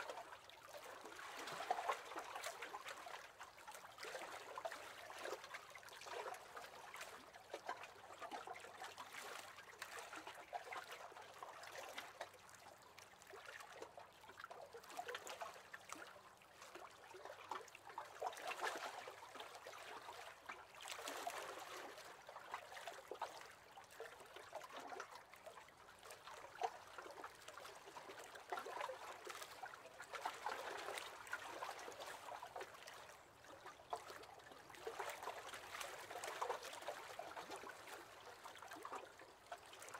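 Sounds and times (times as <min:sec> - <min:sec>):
small waves lapping against boat: 0:00.0 - 0:39.9.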